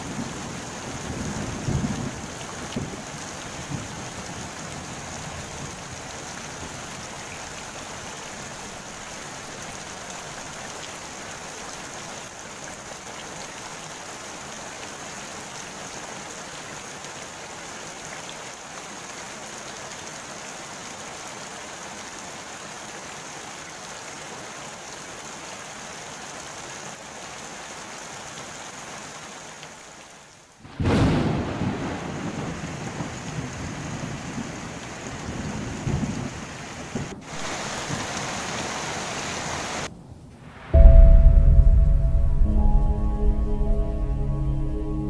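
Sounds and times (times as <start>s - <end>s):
rain falling on pond water: 0.0s - 40.8s.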